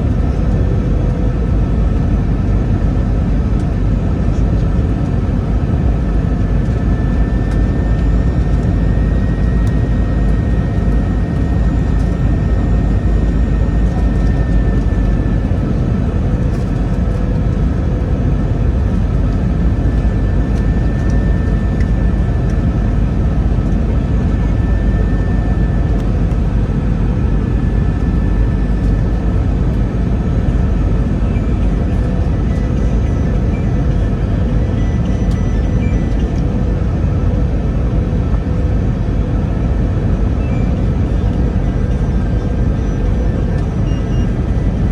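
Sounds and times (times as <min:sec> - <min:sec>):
rumble of engines and airflow: 0:00.0 - 0:44.9.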